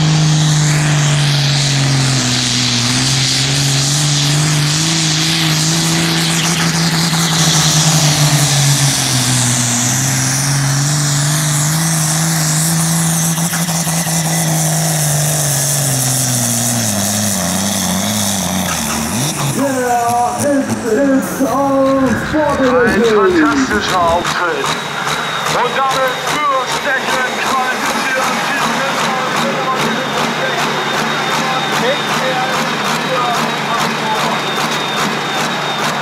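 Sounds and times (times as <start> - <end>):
tractor diesel engine at full throttle: 0.0 - 36.0.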